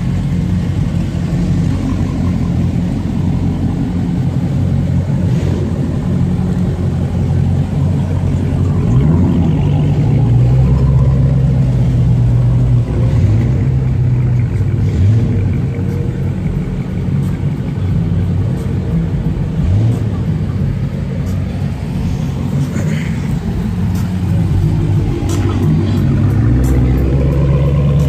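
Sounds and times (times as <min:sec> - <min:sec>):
loud car engines passing: 0:00.0 - 0:28.0.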